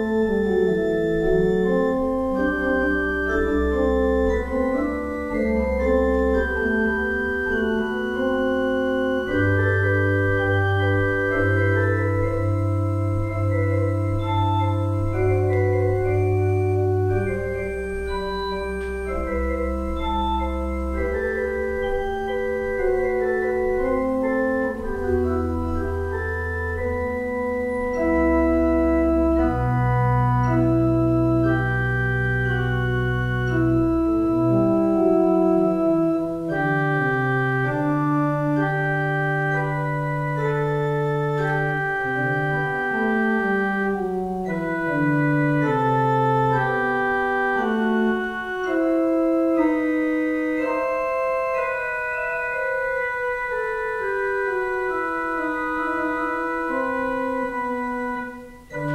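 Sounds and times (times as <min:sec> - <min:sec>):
deep organ pedal notes: 0:00.0 - 0:58.9
organ playing sustained chords: 0:00.0 - 0:58.9.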